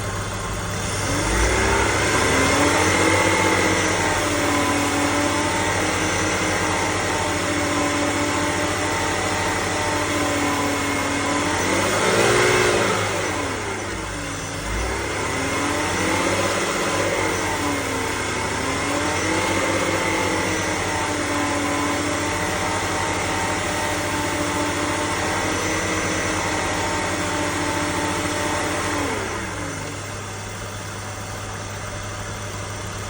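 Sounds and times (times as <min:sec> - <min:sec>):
car engine revving: 0:00.0 - 0:31.2
high-pitched engine whine: 0:00.0 - 0:33.0.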